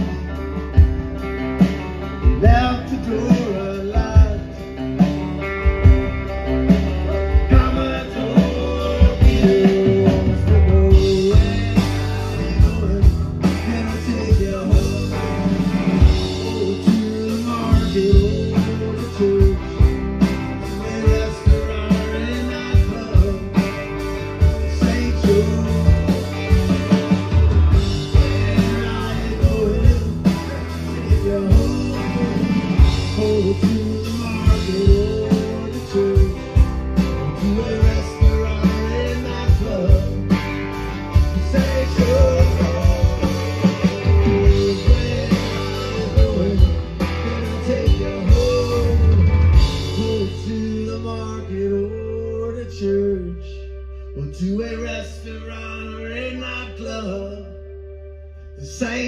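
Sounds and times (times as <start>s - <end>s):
drums: 0.0s - 57.5s
acoustic guitar: 0.0s - 59.0s
electric bass: 0.0s - 59.0s
electric guitar: 0.0s - 59.0s.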